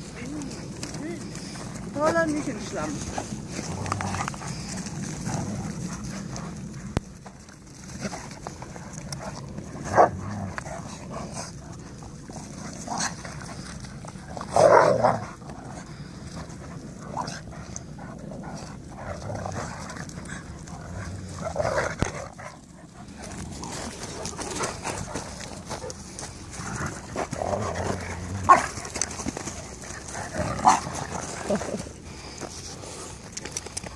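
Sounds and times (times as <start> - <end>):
dogs play-fighting: 0.0 - 33.9.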